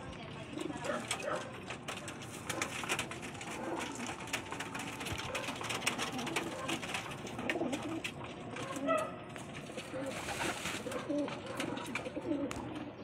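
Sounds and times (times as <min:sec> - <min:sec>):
pigeons cooing: 0:00.4 - 0:13.0.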